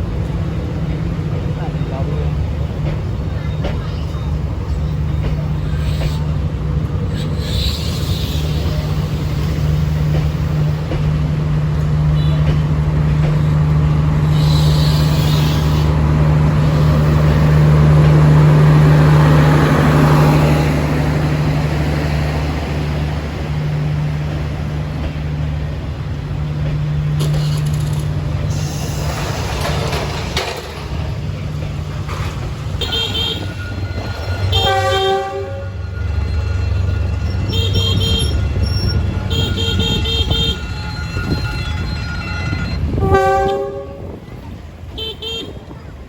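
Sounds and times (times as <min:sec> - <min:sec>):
locomotive diesel engine running: 0:07.8 - 0:46.0.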